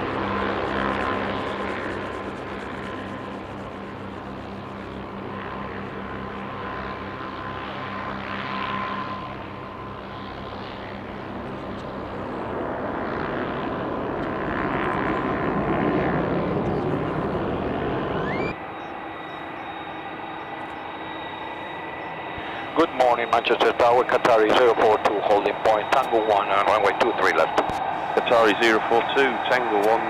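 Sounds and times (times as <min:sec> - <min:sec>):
jet airliner taking off: 0:00.0 - 0:30.0.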